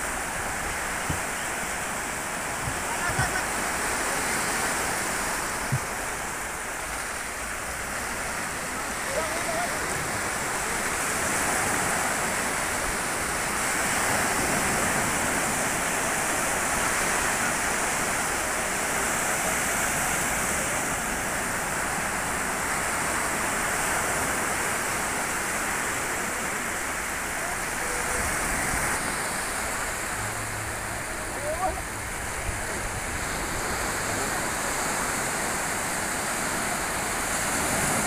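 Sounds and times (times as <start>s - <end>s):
waves washing over sand: 0.0s - 38.0s.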